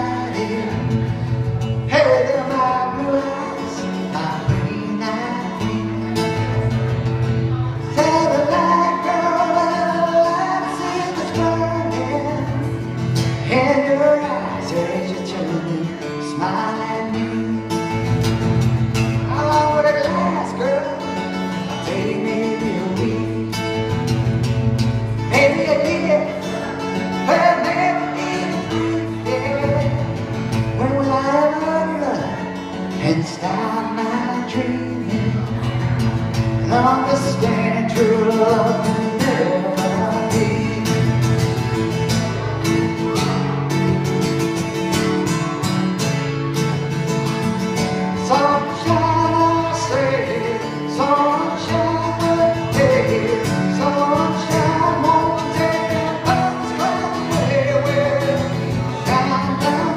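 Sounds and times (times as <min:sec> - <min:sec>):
acoustic guitar: 0:00.0 - 0:59.9
man singing: 0:00.0 - 0:59.9.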